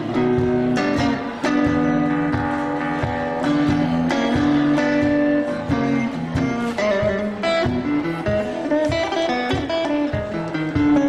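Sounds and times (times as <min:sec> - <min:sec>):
blues electric guitar solo: 0:00.0 - 0:11.0.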